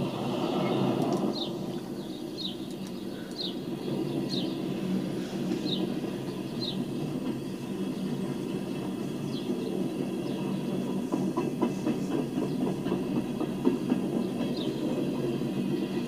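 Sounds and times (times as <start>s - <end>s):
rail cars rolling rumble: 0.0s - 16.0s
wheels clicking over rail joints: 0.8s - 4.5s, 5.4s - 16.0s.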